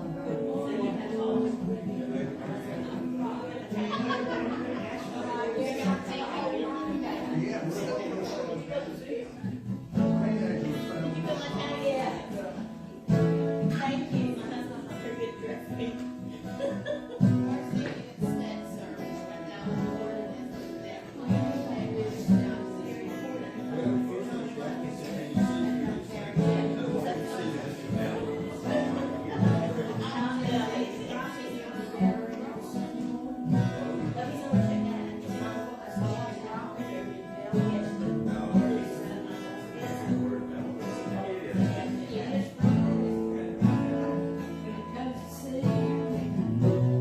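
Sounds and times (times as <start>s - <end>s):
guitar plucked and strummed: 0.0s - 47.0s.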